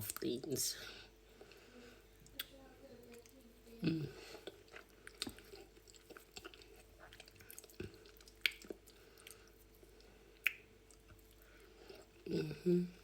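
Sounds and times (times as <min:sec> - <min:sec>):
person chewing food: 0:02.2 - 0:13.0.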